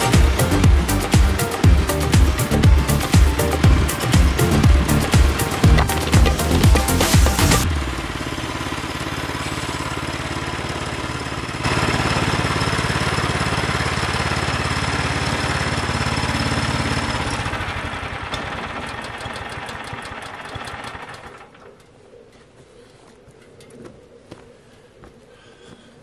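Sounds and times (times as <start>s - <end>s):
gas engine running: 0.0s - 21.6s.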